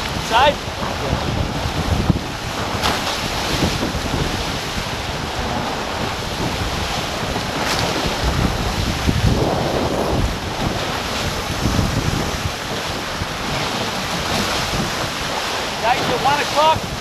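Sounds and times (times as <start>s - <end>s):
water rushing along hulls: 0.0s - 17.0s
wind buffeting microphone: 0.0s - 17.0s.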